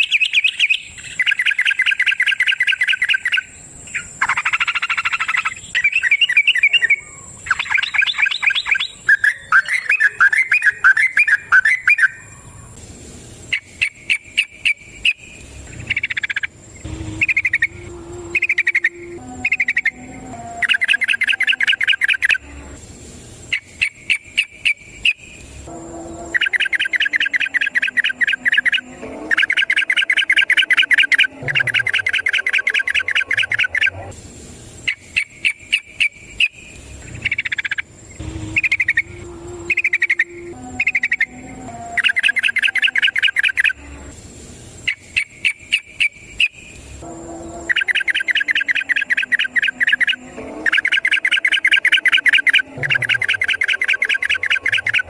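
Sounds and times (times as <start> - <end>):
bird song rapid rattling: 0.0 - 12.7, 13.5 - 20.0, 20.6 - 22.4, 26.3 - 33.9, 34.8 - 41.3, 42.0 - 43.8, 47.7 - 55.0
slurred bird notes: 0.0 - 12.7, 13.5 - 22.8, 23.5 - 34.1, 34.8 - 44.1, 44.8 - 55.0
faint high insect-like tone: 0.0 - 55.0.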